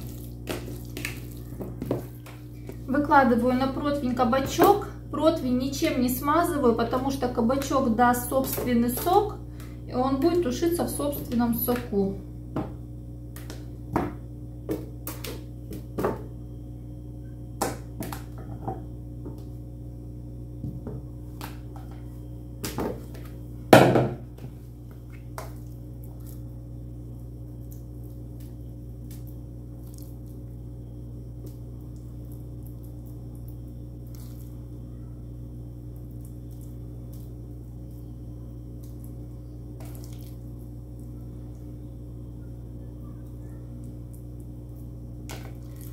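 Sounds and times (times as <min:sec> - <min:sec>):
low electrical hum: 0:00.0 - 0:45.9.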